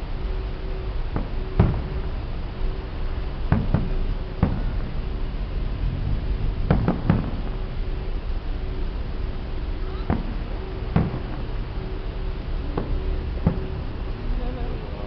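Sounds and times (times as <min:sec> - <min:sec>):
low rumble: 0:00.0 - 0:15.0
fireworks bangs: 0:01.1 - 0:02.2, 0:03.1 - 0:05.3, 0:05.9 - 0:15.0.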